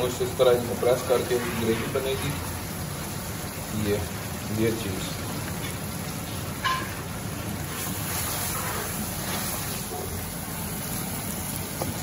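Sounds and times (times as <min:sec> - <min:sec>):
meat and tomatoes frying: 0:00.0 - 0:12.0.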